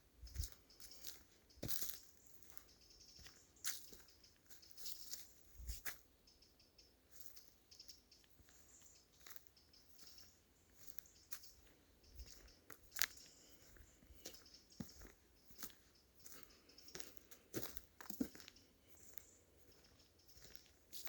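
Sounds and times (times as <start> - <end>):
footsteps crunching on dry leaves: 0.2 - 6.0, 8.3 - 21.0.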